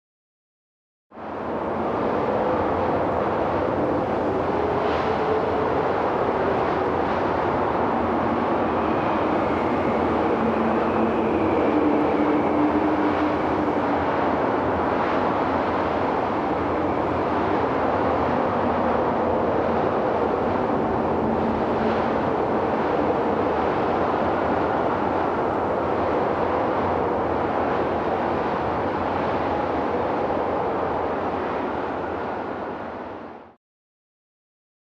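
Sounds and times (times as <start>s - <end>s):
strong wind howling: 1.1s - 33.6s.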